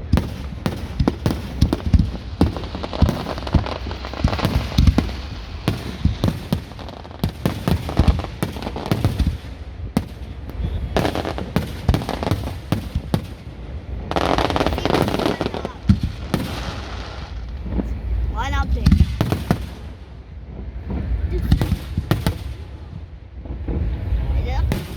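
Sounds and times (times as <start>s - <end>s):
fireworks bursting: 0.0s - 24.9s.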